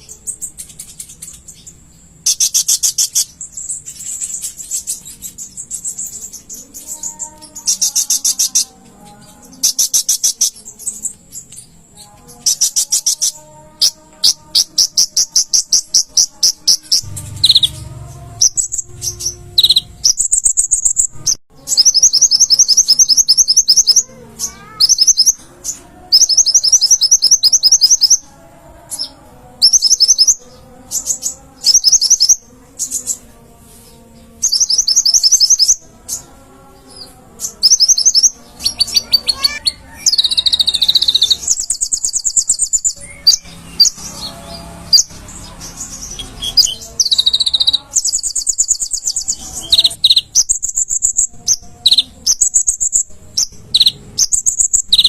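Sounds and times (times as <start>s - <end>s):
bird chittering trills: 0.0s - 33.3s, 34.1s - 55.0s.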